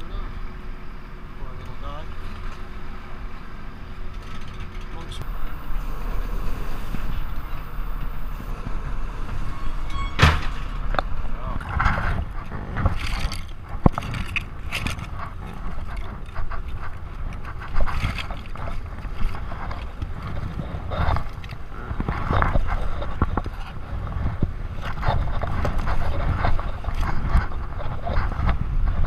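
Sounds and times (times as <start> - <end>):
boat engine rumble: 0.0 - 29.0
knocks and scrapes: 4.1 - 29.0.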